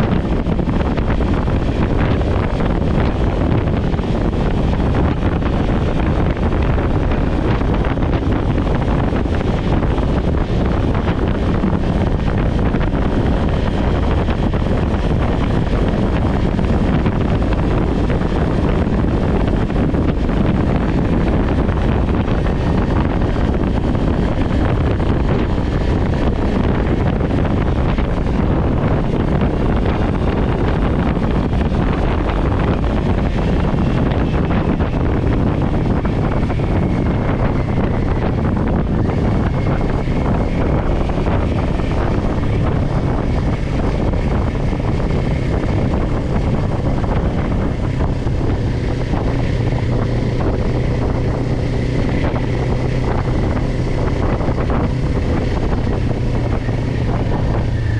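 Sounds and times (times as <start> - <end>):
motorcycle engine running: 0.0 - 57.9
wind rush on microphone: 0.0 - 57.9.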